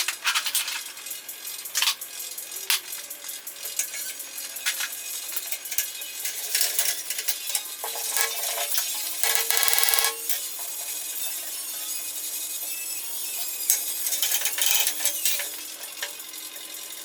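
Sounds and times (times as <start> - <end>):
metal tools clinking and clattering: 0.0 - 11.5, 13.3 - 16.7.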